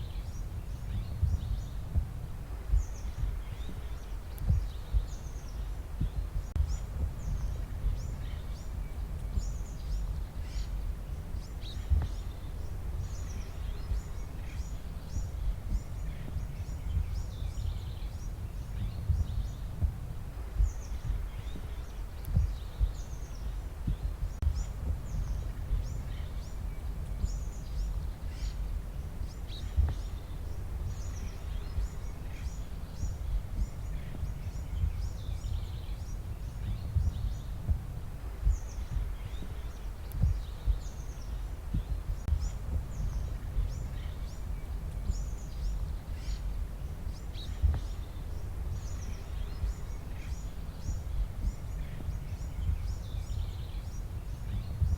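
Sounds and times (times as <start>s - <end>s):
birds chirping: 0.0s - 54.9s
steady low rumble: 0.0s - 54.9s.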